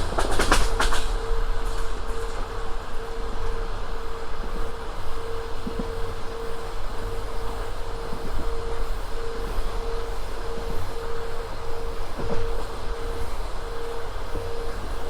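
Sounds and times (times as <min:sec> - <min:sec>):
constant hum: 0:00.0 - 0:15.0
train wheels rumbling on rails: 0:00.0 - 0:15.0.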